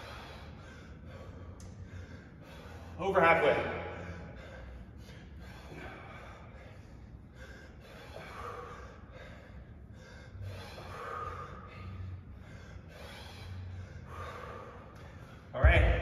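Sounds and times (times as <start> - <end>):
heavy breathing: 0.0 - 15.6.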